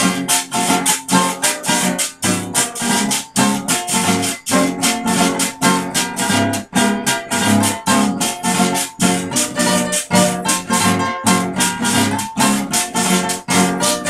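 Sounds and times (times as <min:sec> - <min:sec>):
acoustic guitars strumming: 0:00.0 - 0:14.0
metal percussion strokes: 0:00.0 - 0:14.0.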